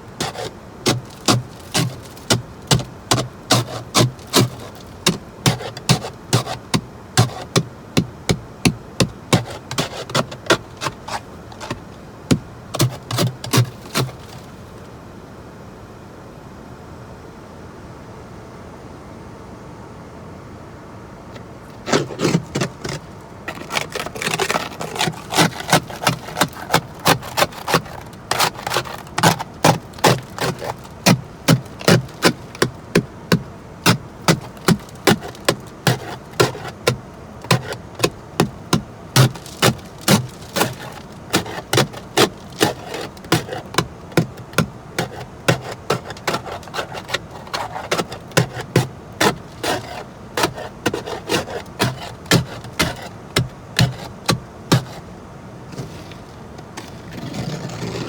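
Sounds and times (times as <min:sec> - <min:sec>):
hand tool chipping ice: 0:00.0 - 0:14.6, 0:21.8 - 0:55.1.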